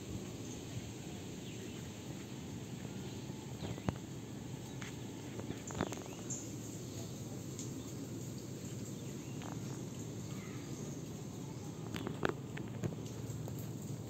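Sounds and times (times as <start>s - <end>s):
insect chirps: 0.2s - 12.4s.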